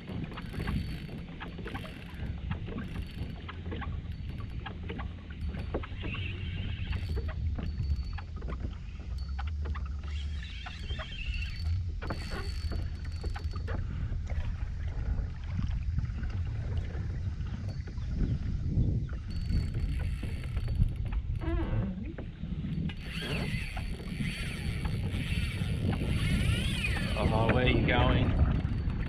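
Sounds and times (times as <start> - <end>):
wind rumble on microphone: 0.0 - 29.0.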